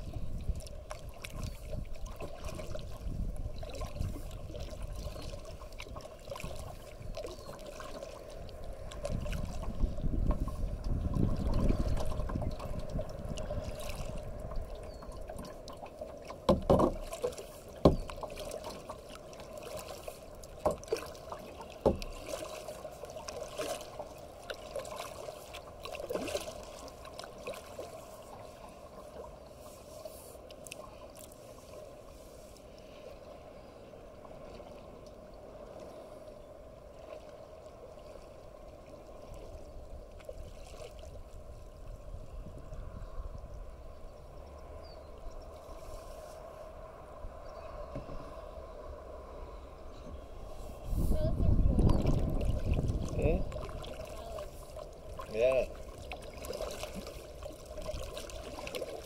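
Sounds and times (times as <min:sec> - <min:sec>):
water lapping against kayak hull: 0:00.0 - 0:59.0.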